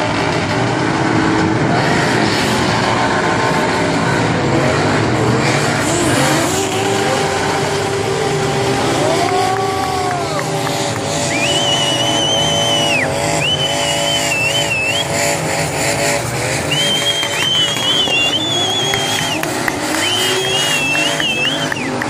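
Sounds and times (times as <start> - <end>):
car engines revving hard: 0.0 - 22.0
high-pitched tyre squeal: 0.0 - 22.0.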